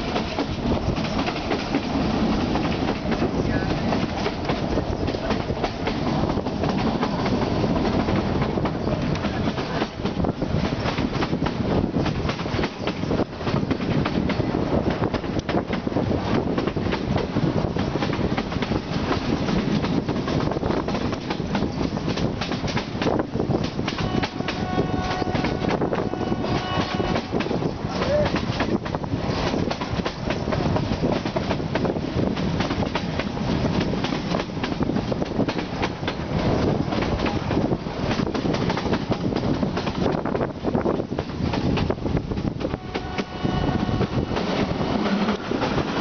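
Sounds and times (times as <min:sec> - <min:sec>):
train rumble: 0:00.0 - 0:46.0
wheels clickety-clack over rail joints: 0:00.0 - 0:46.0.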